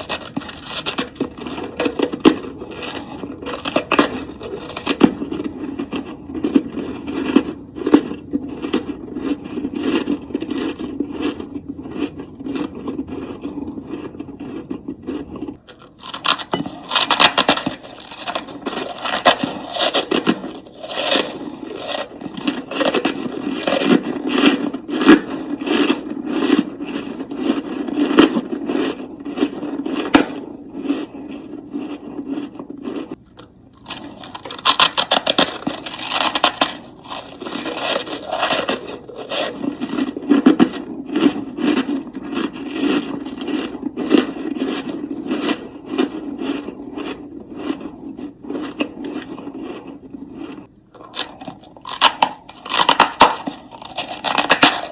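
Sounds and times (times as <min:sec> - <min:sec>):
frost crunching and scraping: 0:00.0 - 0:54.9.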